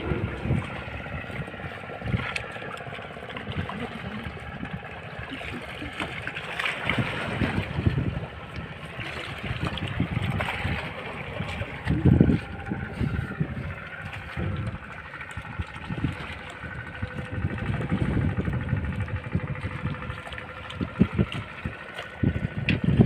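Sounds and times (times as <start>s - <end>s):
boat motor running: 0.0s - 23.0s
water splashing against hull: 0.0s - 23.0s.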